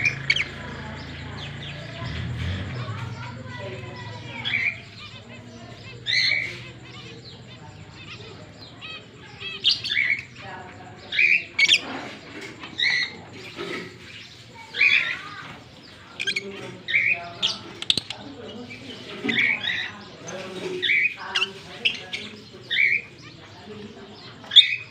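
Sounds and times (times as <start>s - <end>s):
lovebirds chirping: 0.0s - 24.9s.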